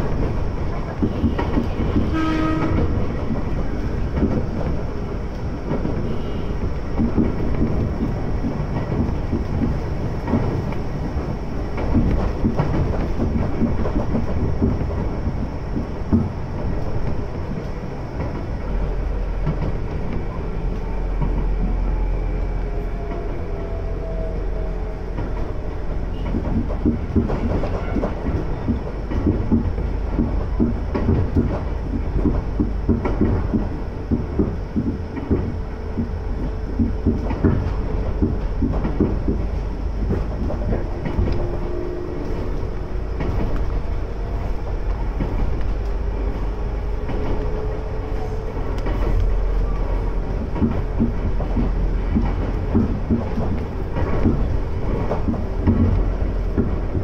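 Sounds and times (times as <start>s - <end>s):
train interior rumble: 0.0s - 57.0s
wheels clacking over rail joints: 0.0s - 57.0s.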